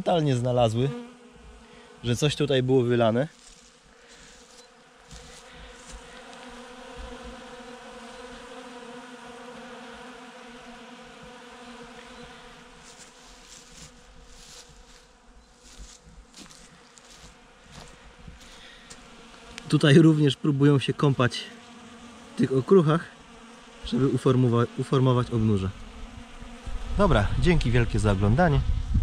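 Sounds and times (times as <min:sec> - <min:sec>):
bees buzzing: 0:00.0 - 0:28.9.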